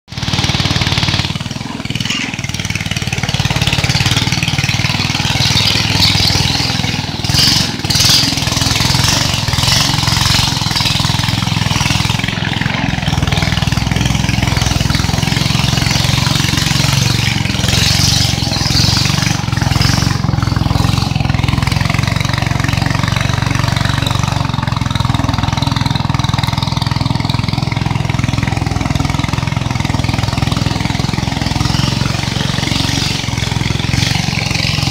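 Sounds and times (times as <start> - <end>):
boat motor humming: 0.1 - 34.9.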